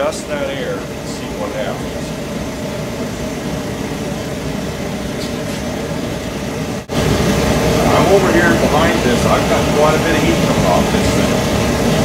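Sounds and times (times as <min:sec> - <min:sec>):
oil burner firing: 0:00.0 - 0:12.0.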